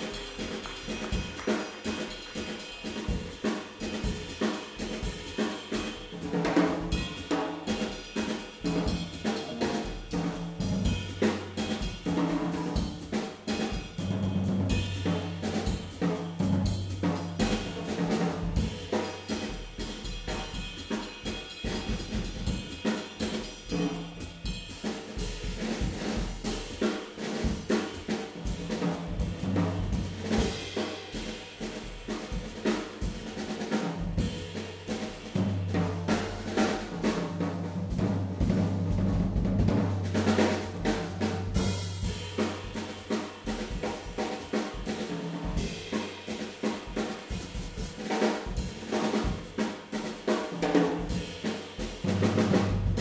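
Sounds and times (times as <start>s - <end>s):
jazz drum kit: 0.0s - 53.0s.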